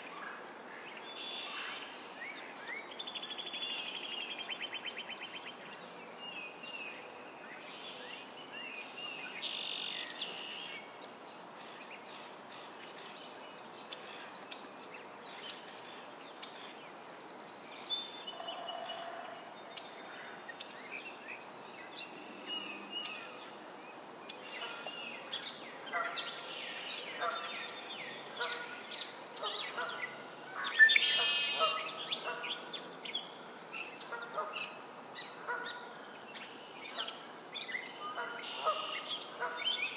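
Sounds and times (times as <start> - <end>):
birds singing and calling: 0.0 - 39.9.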